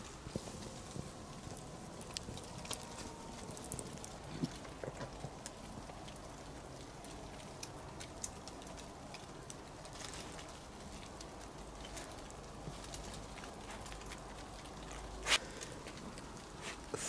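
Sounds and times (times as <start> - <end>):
campfire crackling: 0.0 - 17.0
fire popping: 0.0 - 17.0
low steady hiss: 0.0 - 17.0.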